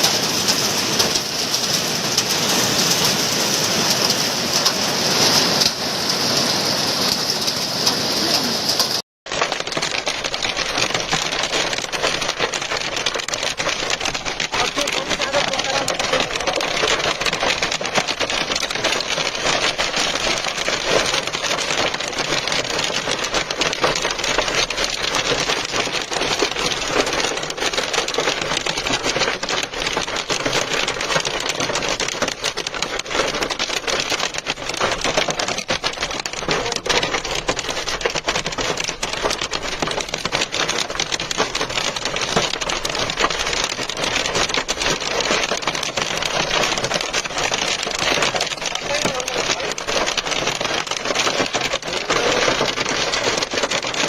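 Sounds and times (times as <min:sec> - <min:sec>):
hail and heavy rain clattering: 0:00.0 - 0:54.0.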